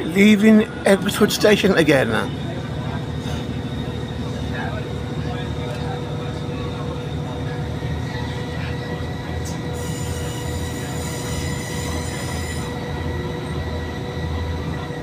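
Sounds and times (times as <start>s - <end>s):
train rumbling and whining: 0.0s - 15.0s.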